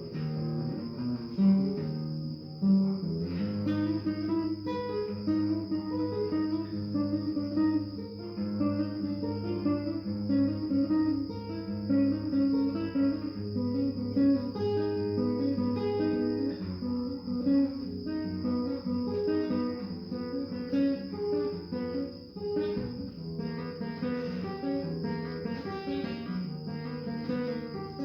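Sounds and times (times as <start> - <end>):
acoustic guitar melody: 0.0 - 28.0
faint high-pitched drone: 0.0 - 28.0.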